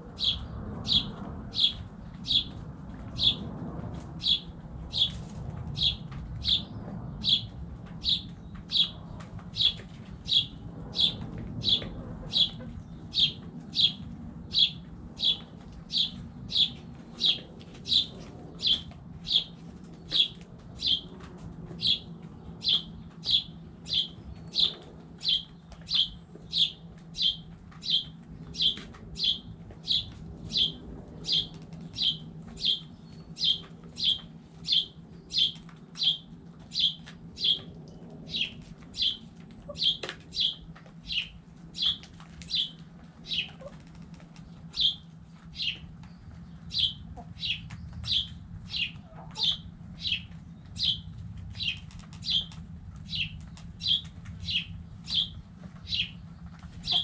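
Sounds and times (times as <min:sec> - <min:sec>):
bird chirping: 0:00.2 - 0:02.6, 0:04.2 - 0:05.2, 0:05.8 - 0:21.1, 0:21.8 - 0:37.7, 0:38.3 - 0:43.7, 0:44.6 - 0:57.0.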